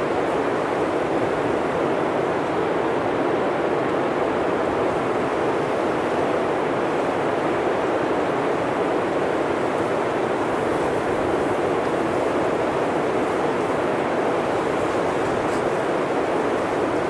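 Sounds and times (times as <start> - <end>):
blizzard wind blowing: 0.0 - 17.0.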